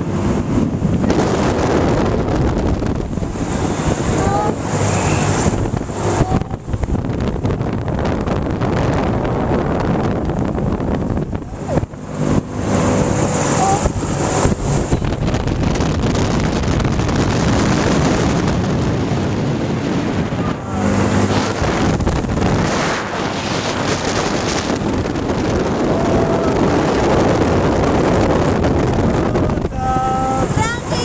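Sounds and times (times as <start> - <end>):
thrill ride running noise: 0.0 - 31.0
wind buffeting microphone: 0.0 - 31.0.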